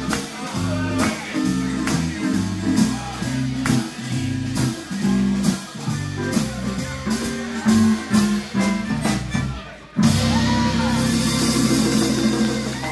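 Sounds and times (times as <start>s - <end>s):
bass line: 0.0s - 12.9s
blues band playing: 0.0s - 12.9s
strummed guitar chords: 0.0s - 12.9s.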